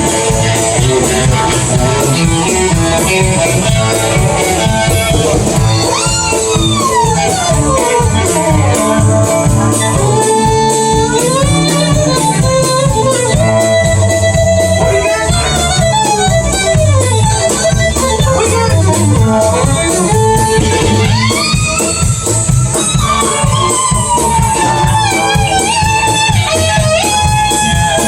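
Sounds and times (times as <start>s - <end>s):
country band playing: 0.0s - 28.0s
fiddle solo: 0.0s - 28.0s.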